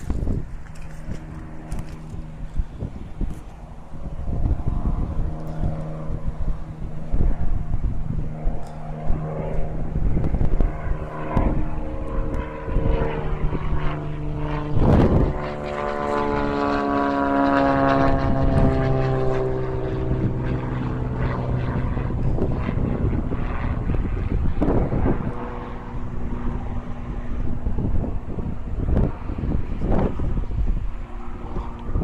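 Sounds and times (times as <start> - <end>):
propeller plane engine drone: 0.0 - 32.0.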